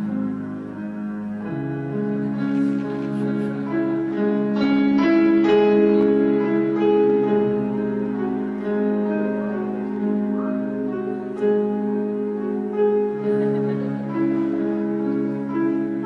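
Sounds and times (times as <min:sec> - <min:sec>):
slow instrumental melody: 0:00.0 - 0:16.0.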